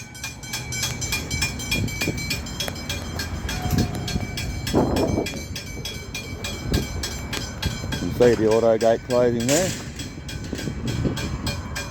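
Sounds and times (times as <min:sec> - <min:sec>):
level crossing bells ringing: 0:00.0 - 0:11.9.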